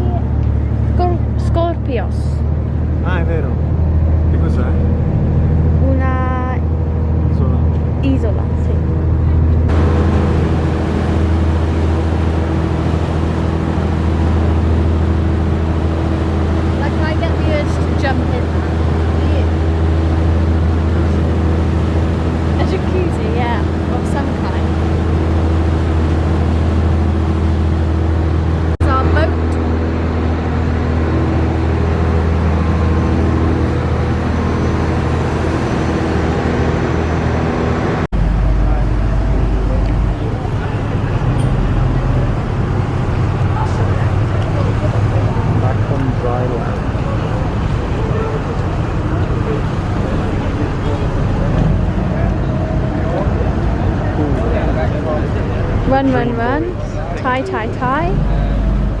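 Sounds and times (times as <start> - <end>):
boat engine low drone: 0.0 - 59.0
rushing noise: 9.0 - 59.0.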